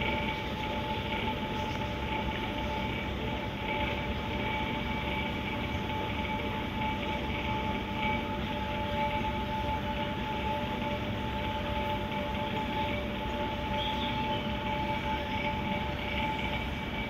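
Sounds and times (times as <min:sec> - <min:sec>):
air pumps humming: 0:00.0 - 0:17.0
mid-pitched whine: 0:00.0 - 0:17.0.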